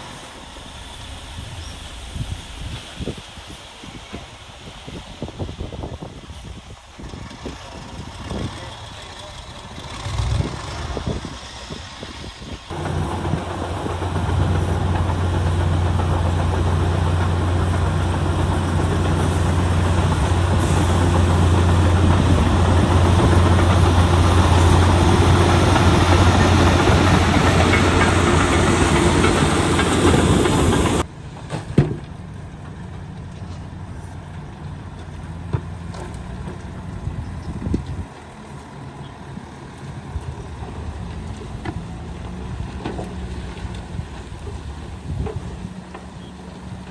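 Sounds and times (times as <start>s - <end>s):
heavy diesel engine working: 5.2s - 46.9s.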